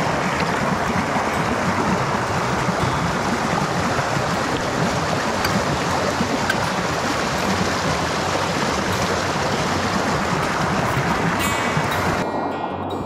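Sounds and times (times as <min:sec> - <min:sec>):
creek rushing over rocks: 0:00.0 - 0:12.2.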